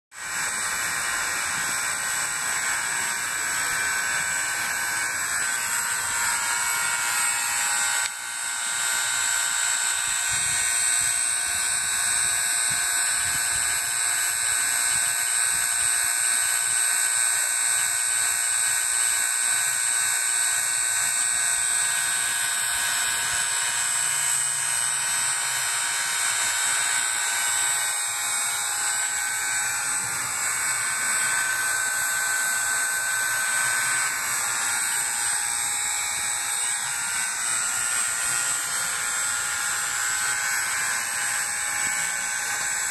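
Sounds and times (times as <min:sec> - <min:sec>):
vacuum pump buzzing: 0:00.1 - 0:42.9.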